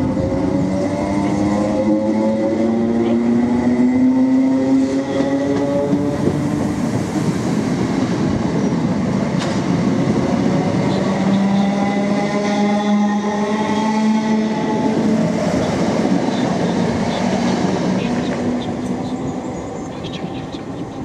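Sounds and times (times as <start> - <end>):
train carriages rumbling and clattering: 0.0 - 21.0
train hum: 0.0 - 21.0.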